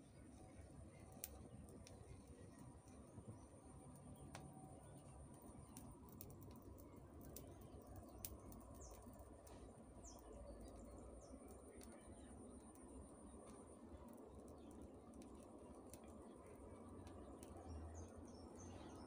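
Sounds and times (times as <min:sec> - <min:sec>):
soft ticks: 0:01.0 - 0:03.0, 0:03.9 - 0:19.0.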